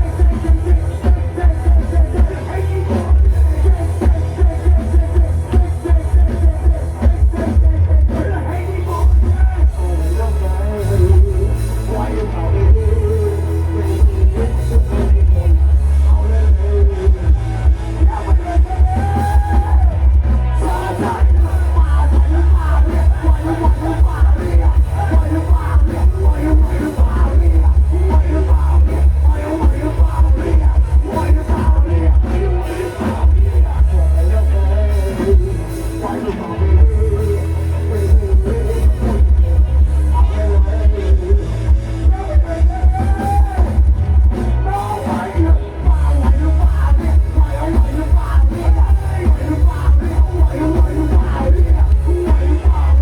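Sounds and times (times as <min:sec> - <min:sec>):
loud music with pounding bass: 0:00.0 - 0:53.0
person singing: 0:00.0 - 0:53.0.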